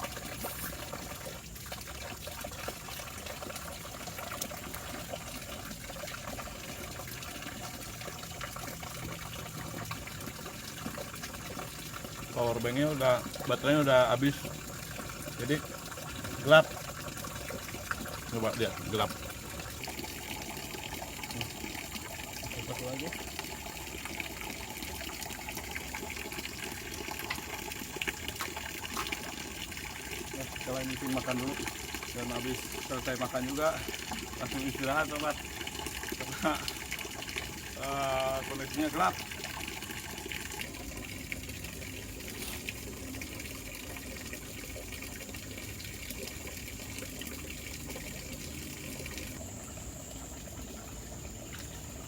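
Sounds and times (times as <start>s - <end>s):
rushing water: 0.0s - 52.0s.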